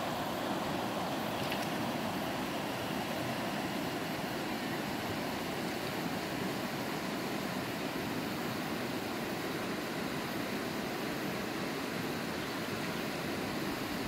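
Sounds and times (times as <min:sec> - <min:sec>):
river flowing over stones: 0:00.0 - 0:14.0.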